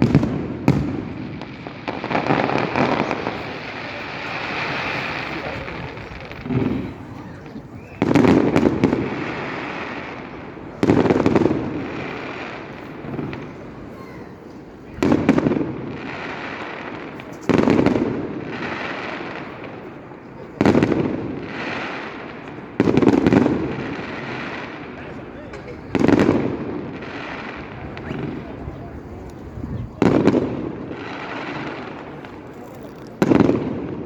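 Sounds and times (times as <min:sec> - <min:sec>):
firework bangs: 0:00.0 - 0:34.0
firework crackle: 0:00.0 - 0:34.0.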